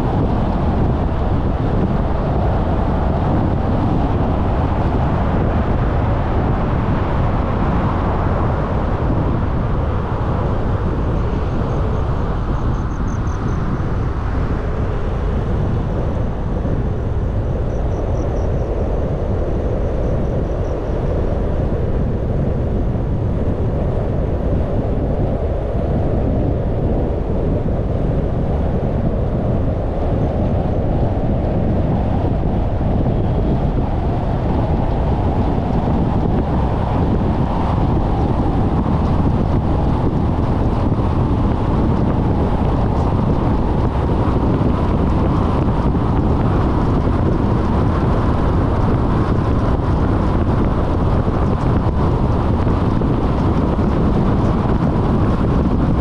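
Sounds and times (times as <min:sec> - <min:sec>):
road and wind noise: 0:00.0 - 0:56.0.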